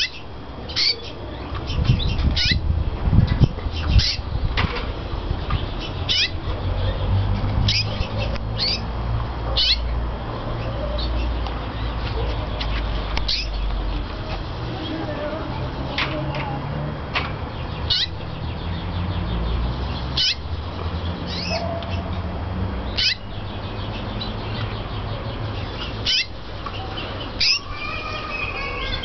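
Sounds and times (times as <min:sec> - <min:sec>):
canary chirping: 0:00.0 - 0:02.7, 0:03.3 - 0:15.9, 0:17.5 - 0:29.0.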